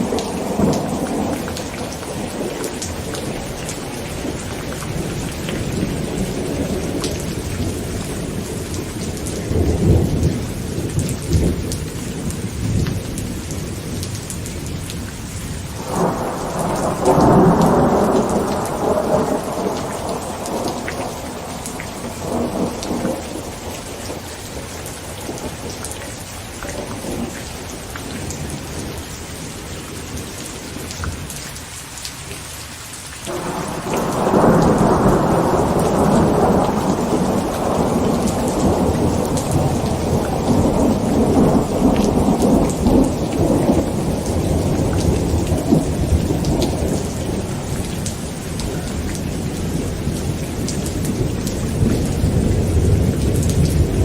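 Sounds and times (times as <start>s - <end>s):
rolling thunder: 0.0s - 15.0s, 15.7s - 30.9s, 33.3s - 54.0s
heavy rain on a tent: 0.0s - 54.0s.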